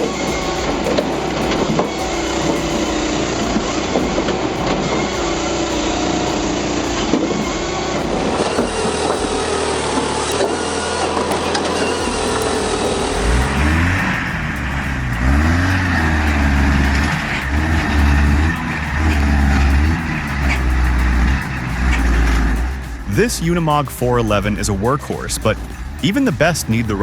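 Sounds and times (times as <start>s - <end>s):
heavy vehicle engine revving: 0.0s - 23.4s
machinery running: 0.0s - 27.0s.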